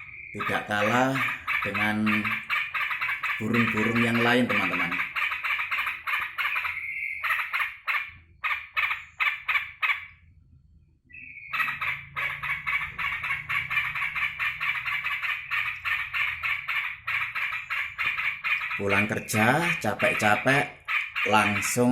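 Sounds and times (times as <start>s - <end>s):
bird chattering: 0.0s - 10.2s, 11.1s - 21.9s.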